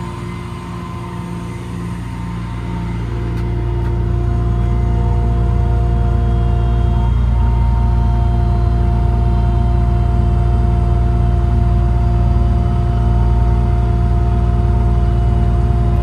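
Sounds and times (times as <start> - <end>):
air compressor running: 0.0 - 16.0
diesel engine running: 0.0 - 16.0.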